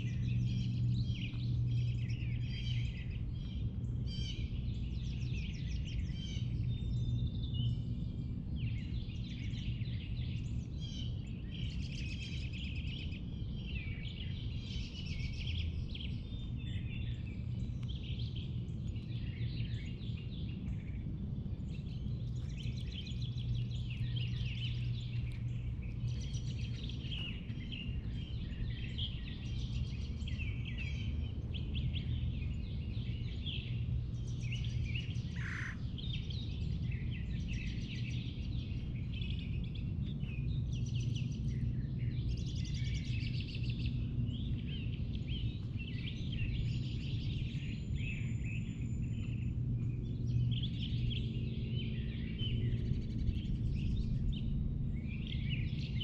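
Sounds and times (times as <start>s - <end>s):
songbirds singing and chirping: 0.0s - 56.0s
steady low hum: 0.0s - 56.0s.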